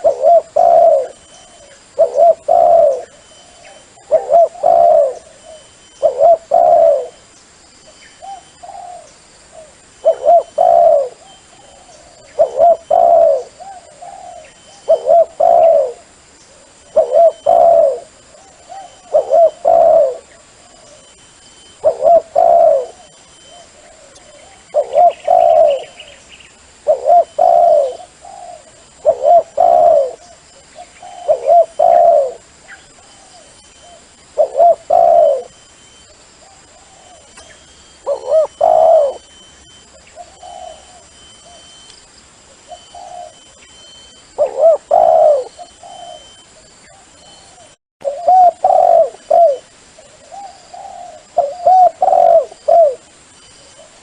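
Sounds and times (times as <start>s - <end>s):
dove cooing: 0.0s - 7.2s, 8.2s - 26.2s, 26.8s - 35.6s, 36.4s - 41.8s, 42.6s - 54.0s.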